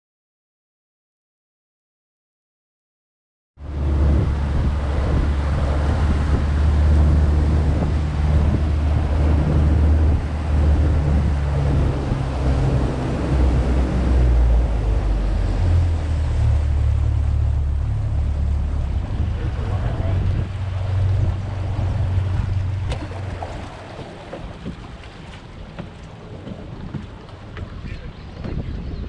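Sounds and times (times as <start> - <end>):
wind buffeting microphone: 3.6 - 29.0.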